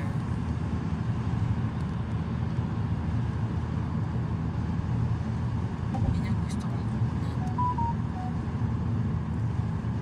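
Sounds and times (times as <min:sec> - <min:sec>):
car interior road rumble: 0:00.0 - 0:10.0.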